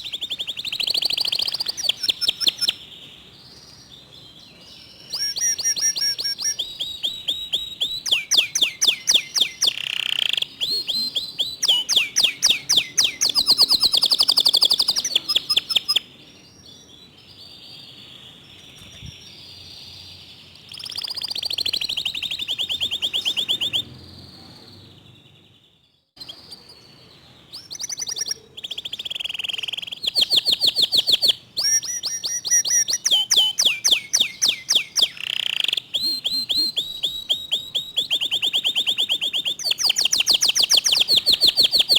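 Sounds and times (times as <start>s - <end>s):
canary singing trills: 0.0s - 41.9s.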